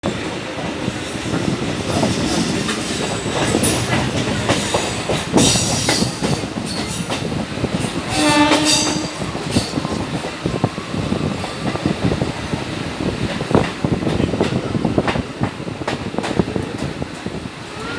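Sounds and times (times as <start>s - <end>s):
train rumbling on rails: 0.0s - 17.9s.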